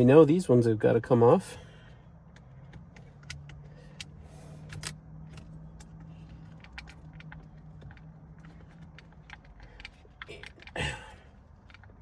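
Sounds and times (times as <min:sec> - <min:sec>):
hand tools clicking and tapping: 0:02.3 - 0:12.0.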